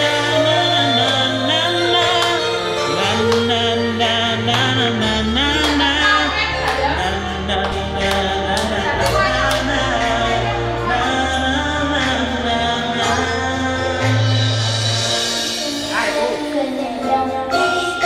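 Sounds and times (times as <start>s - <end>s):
backing track with bass notes: 0.0s - 18.0s
person singing karaoke: 0.0s - 18.0s.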